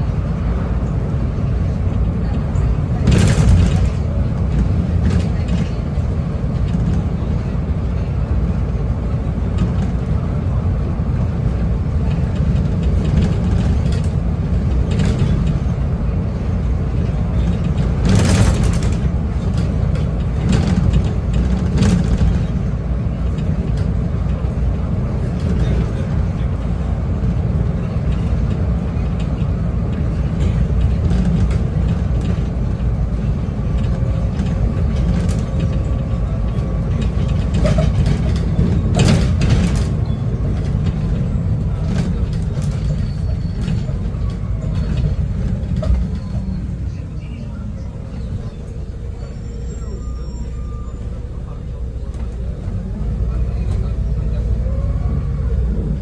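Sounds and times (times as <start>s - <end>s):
bus engine and road rumble: 0.0s - 56.0s
rattles inside bus: 0.0s - 56.0s.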